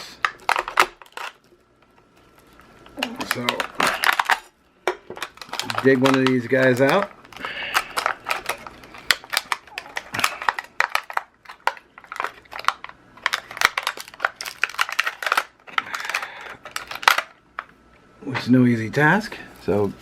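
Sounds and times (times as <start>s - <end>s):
packet rustling: 0.0s - 17.7s.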